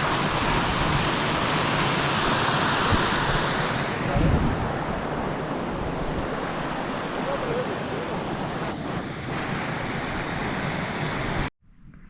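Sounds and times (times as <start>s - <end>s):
stream water rushing: 0.0s - 11.5s.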